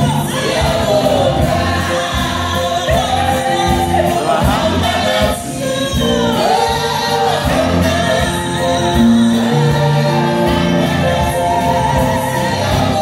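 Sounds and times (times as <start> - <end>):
group singing into microphones: 0.0 - 13.0.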